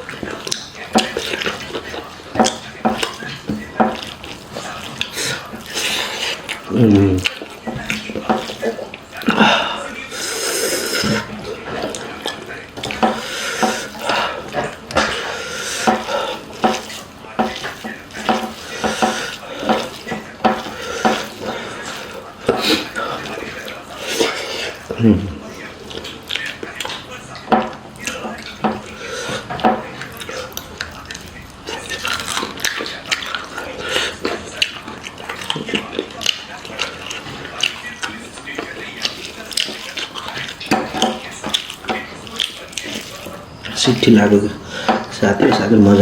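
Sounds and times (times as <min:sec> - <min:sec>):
wet chewing and lip smacking: 0:00.0 - 0:45.7.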